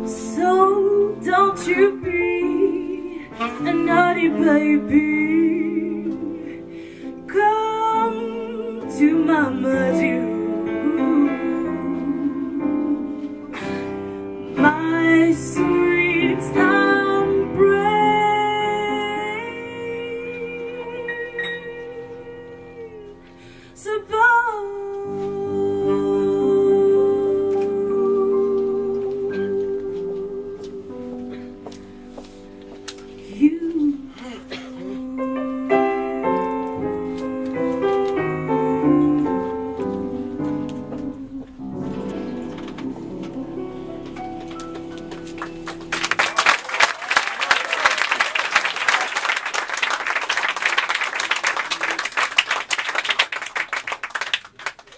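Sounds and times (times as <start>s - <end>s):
jazz piano playing: 0.0s - 34.2s, 34.9s - 46.6s
slow tender ballad: 0.0s - 46.0s.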